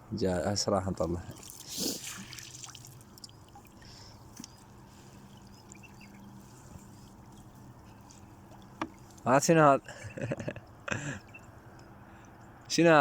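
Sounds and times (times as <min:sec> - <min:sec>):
low steady hum: 0:00.0 - 0:13.0
water trickling and lapping: 0:01.0 - 0:12.8.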